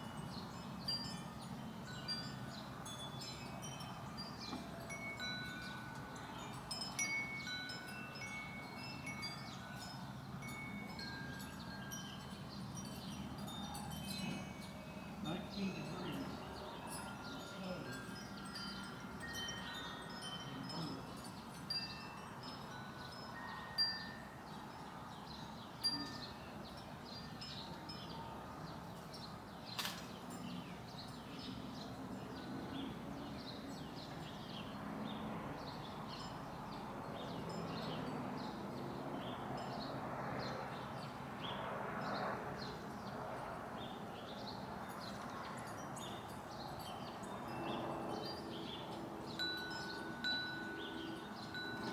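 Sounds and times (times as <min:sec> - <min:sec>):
wind chimes ringing: 0:00.0 - 0:34.7, 0:36.0 - 0:41.5, 0:43.8 - 0:51.9.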